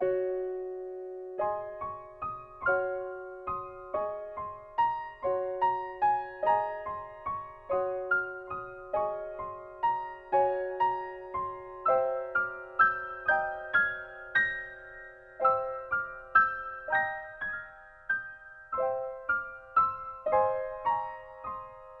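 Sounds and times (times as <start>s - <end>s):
slow keyboard melody: 0.0s - 22.0s.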